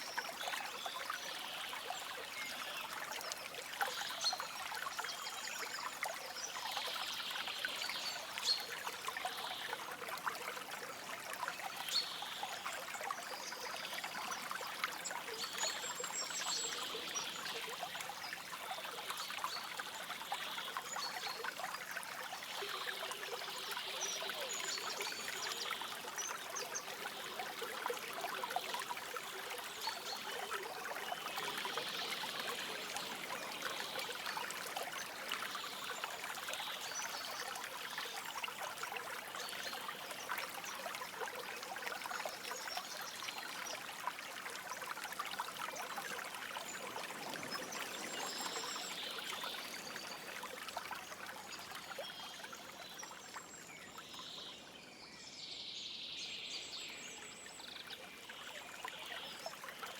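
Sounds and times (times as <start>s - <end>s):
stream trickling and babbling: 0.0s - 59.9s.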